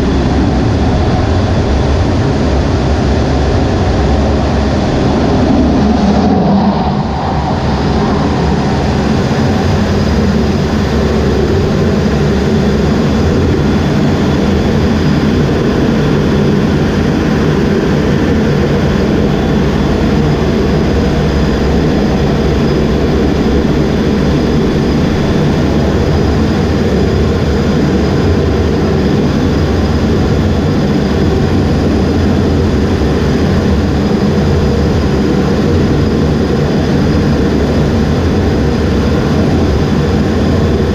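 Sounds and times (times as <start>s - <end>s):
faint high whine: 0.0s - 40.9s
jet engine rumble: 0.0s - 40.9s.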